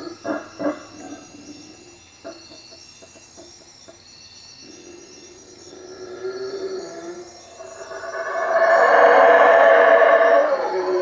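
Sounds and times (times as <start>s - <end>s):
howler monkeys howling: 0.0s - 3.2s, 4.6s - 11.0s
insects trilling: 0.0s - 11.0s.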